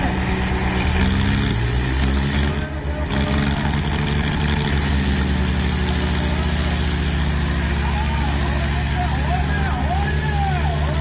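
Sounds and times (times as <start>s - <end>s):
tractor diesel engines under load: 0.0s - 11.0s.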